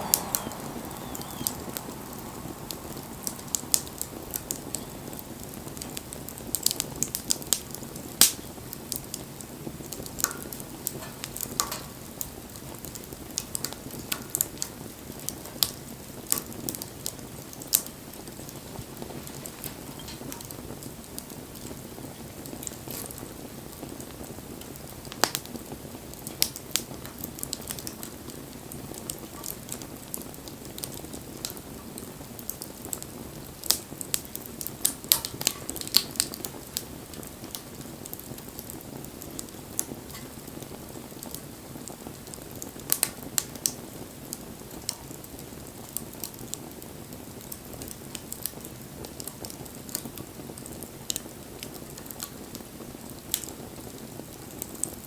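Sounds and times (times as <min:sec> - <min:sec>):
fire crackles and pops: 0:00.0 - 0:55.0
low rush of flames: 0:00.0 - 0:55.0.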